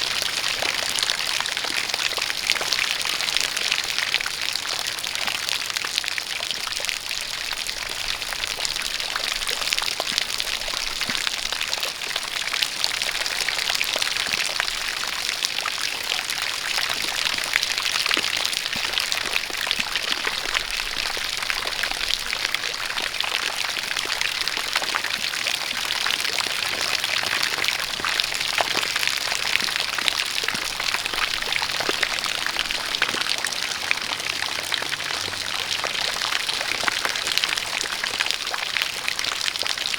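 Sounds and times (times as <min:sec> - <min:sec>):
steady rain: 0:00.0 - 0:39.9
water pouring and splashing: 0:00.0 - 0:39.9.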